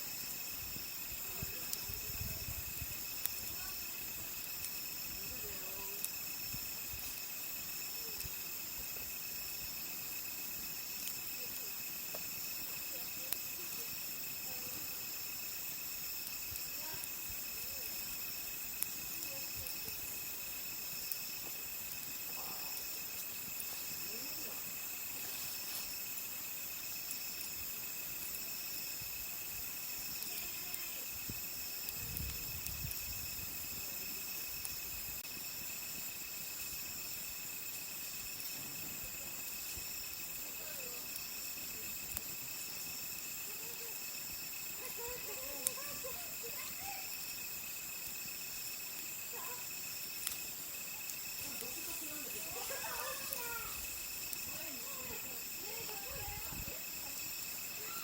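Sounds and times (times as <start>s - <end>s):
campfire crackling: 0.0s - 58.0s
crickets and night insects chirping: 0.0s - 58.0s.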